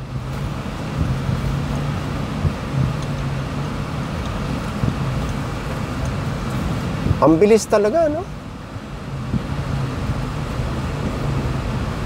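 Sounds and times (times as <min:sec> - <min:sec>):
tyre and traffic noise: 0:00.0 - 0:12.0
vehicle engine humming: 0:00.0 - 0:12.0.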